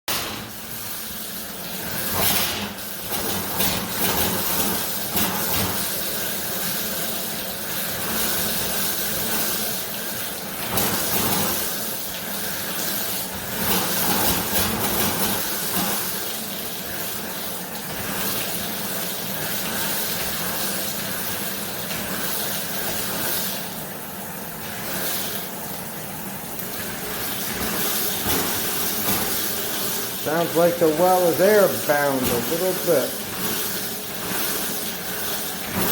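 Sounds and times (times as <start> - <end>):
water spurting and hissing from pipes: 0.1 - 35.9.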